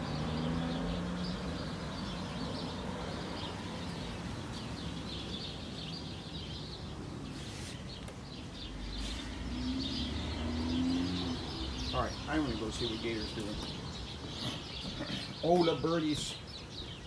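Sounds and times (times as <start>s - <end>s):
low outdoor noise: 0.0s - 17.0s
small birds chirping: 0.0s - 17.0s.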